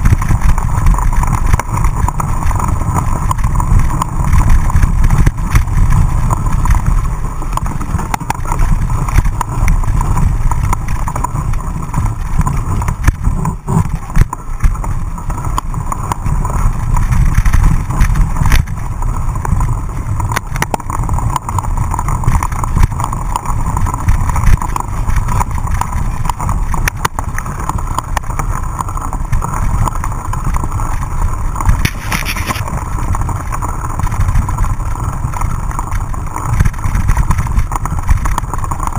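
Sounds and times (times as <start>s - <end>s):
bike knocks and rattles: 0.0s - 38.9s
wind rumble on microphone: 0.0s - 38.9s.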